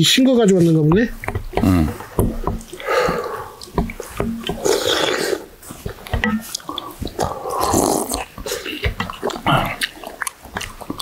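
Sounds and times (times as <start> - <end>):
people slurping soup: 1.1 - 11.0.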